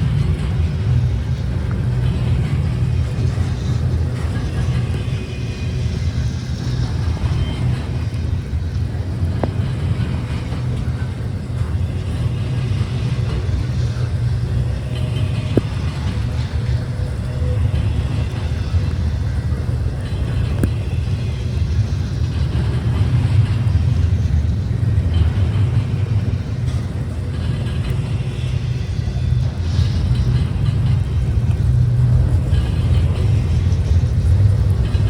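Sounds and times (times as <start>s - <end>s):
vehicle rumbling: 0.0s - 35.0s.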